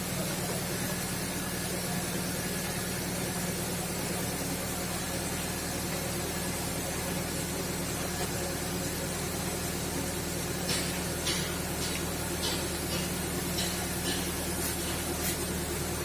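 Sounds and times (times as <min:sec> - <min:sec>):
motor humming steadily: 0:00.0 - 0:16.0.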